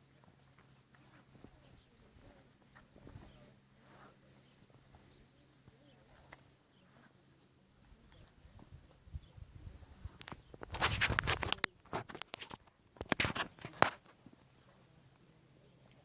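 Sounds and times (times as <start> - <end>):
faint high chirping pulses: 0.0 - 10.7, 13.6 - 16.0.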